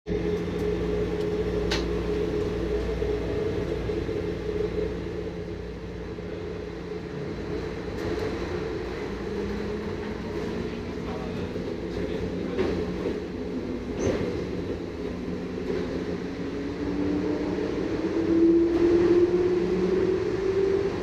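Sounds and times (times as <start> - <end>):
train rumble from inside: 0.1 - 21.0.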